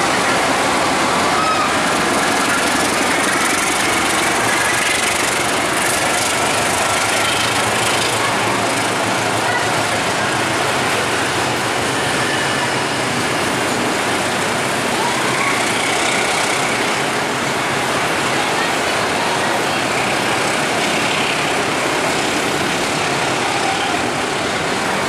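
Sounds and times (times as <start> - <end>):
train wheels rumbling over rails: 0.0 - 25.0.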